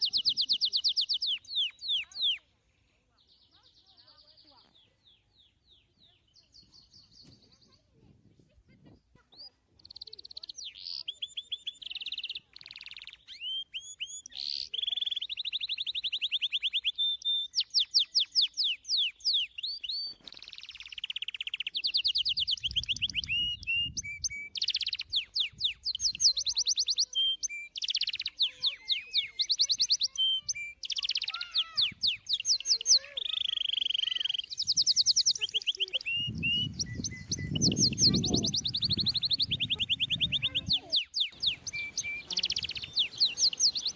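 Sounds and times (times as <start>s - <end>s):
songbirds singing trills: 0.0s - 8.0s, 8.8s - 43.9s.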